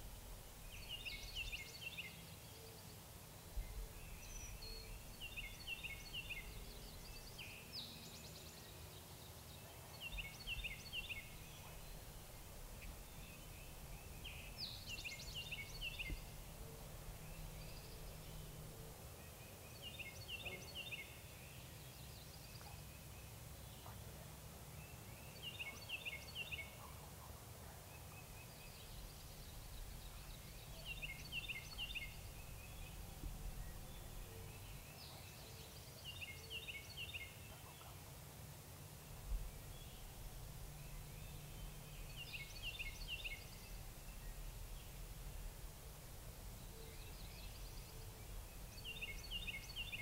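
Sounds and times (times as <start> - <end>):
bird chirping: 0.6 - 12.1, 12.7 - 24.1, 27.8 - 38.0, 39.0 - 45.4, 46.4 - 50.0.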